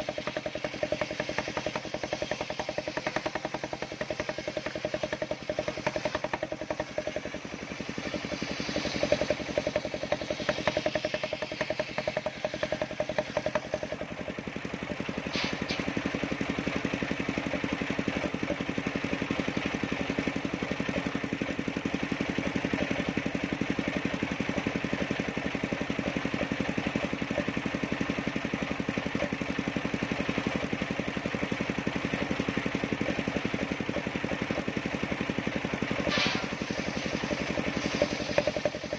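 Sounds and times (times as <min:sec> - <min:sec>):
circular sawmill engine drone: 0:00.0 - 0:38.9.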